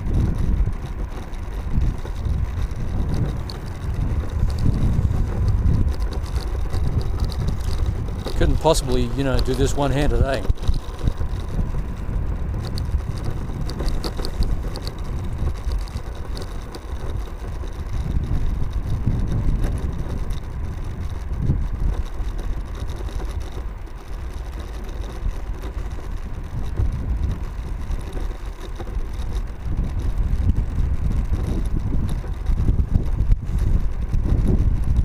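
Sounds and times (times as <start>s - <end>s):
scooter tyre rumble: 0.0s - 35.0s
wind on microphone: 0.0s - 35.0s.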